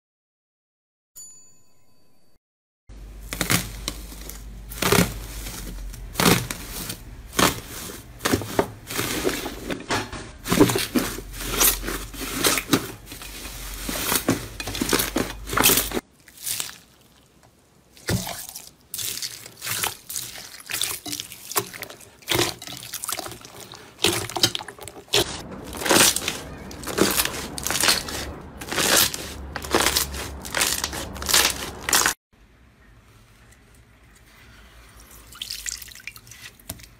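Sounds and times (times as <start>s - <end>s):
slime squelching: 3.1s - 9.8s, 10.4s - 32.2s, 33.0s - 36.9s.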